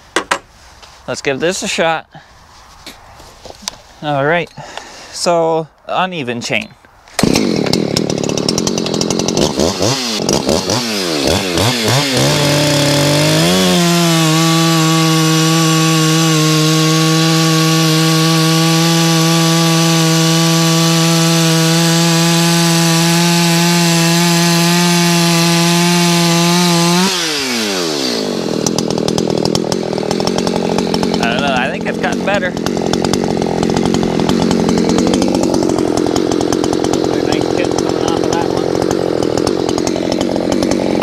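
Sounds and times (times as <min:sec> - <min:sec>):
chainsaw cutting through log: 0:06.5 - 0:41.0.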